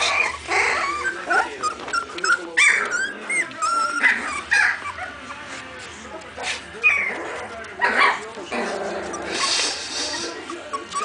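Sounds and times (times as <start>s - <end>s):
puppies whining and squealing: 0.0s - 11.0s.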